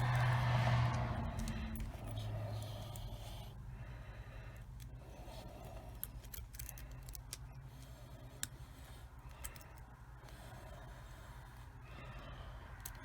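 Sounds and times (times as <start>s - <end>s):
lock pick clicking and scratching: 0.0s - 3.6s, 4.6s - 11.8s, 12.6s - 13.0s
low steady hum: 0.0s - 13.0s.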